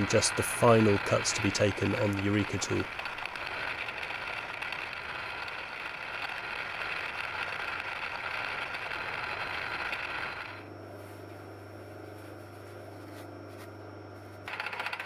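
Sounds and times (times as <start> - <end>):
low machine hum: 0.0 - 15.0
spindle whirring cutting noise: 0.0 - 15.0.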